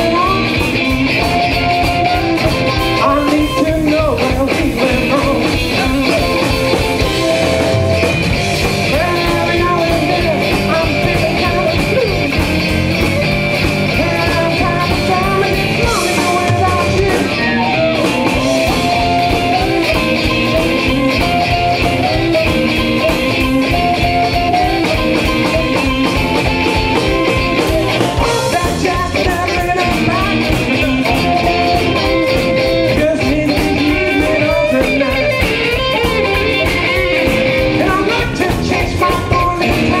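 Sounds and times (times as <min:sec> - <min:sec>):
drum kit steady beat: 0:00.0 - 0:40.0
electric bass: 0:00.0 - 0:40.0
electric guitar: 0:00.0 - 0:40.0
harmonica: 0:00.0 - 0:40.0.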